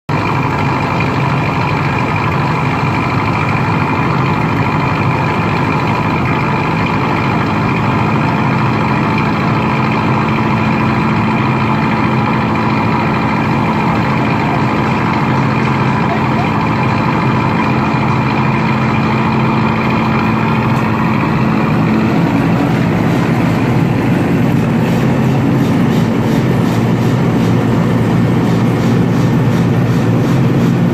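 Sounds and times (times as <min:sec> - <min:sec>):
heavy machinery running: 0:00.1 - 0:30.9
low hum: 0:00.4 - 0:30.9.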